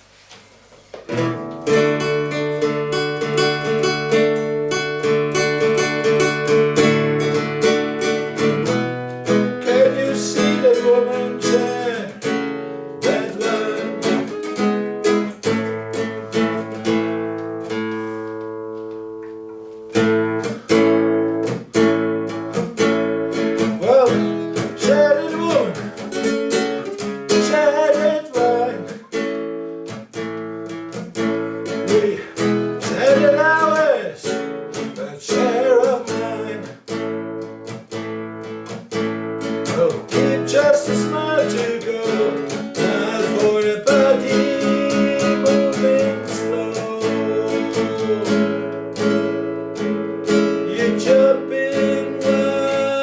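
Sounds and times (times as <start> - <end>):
acoustic guitar strumming chords: 0.9 - 53.0.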